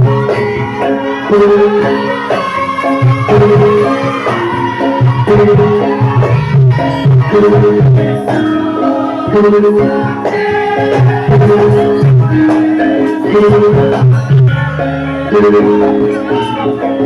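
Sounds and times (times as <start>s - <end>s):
drums keeping steady rhythm: 0.0s - 17.0s
held melodic notes: 0.0s - 17.0s.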